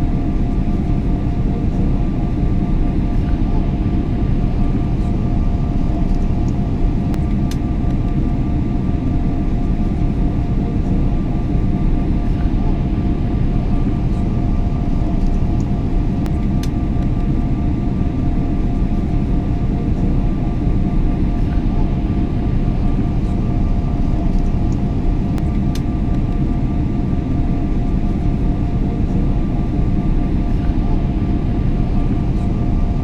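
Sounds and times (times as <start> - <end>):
airliner engine and airflow rumble: 0.0 - 33.0
faint constant hum: 0.0 - 33.0.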